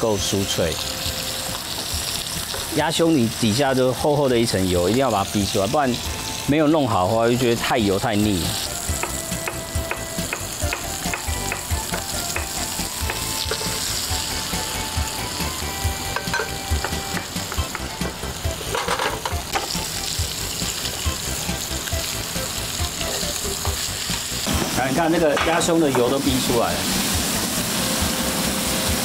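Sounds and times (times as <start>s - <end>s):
meat sizzling in a pan: 0.0s - 29.0s.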